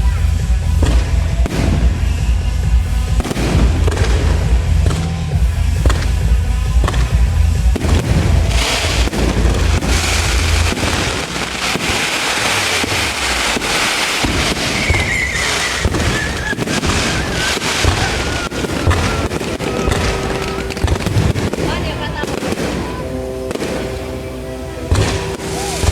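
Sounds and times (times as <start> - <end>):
fireworks crackling and popping: 0.0 - 25.9
heavy low rumble: 0.0 - 25.9.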